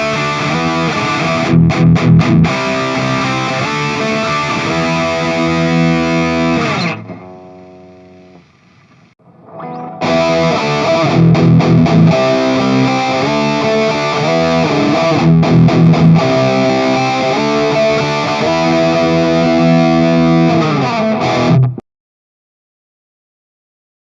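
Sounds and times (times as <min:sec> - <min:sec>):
distorted electric guitar chords: 0:00.0 - 0:21.8.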